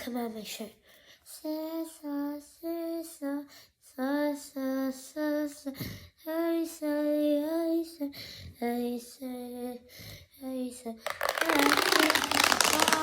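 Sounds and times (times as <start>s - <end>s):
girl singing without words: 0.0s - 13.0s.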